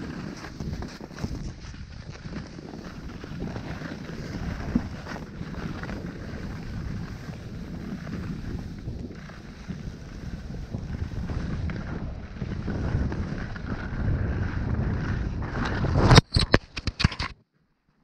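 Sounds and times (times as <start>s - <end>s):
skis sliding on packed snow: 0.0s - 16.2s
wind buffeting microphone: 0.0s - 16.9s.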